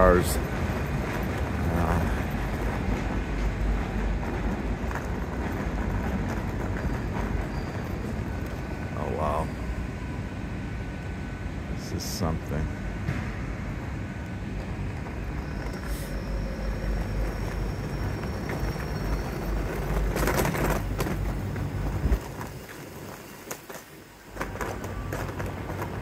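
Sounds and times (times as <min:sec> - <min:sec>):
station background noise: 0:00.0 - 0:26.0
train rumbling past platform: 0:00.0 - 0:26.0.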